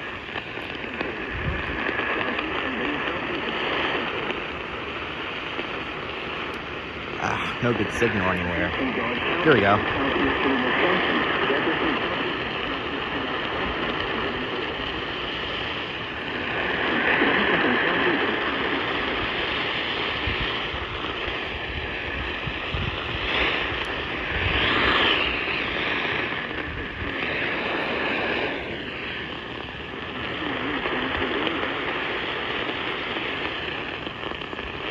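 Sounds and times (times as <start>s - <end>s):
radio static hiss: 0.0s - 19.8s, 24.6s - 34.9s.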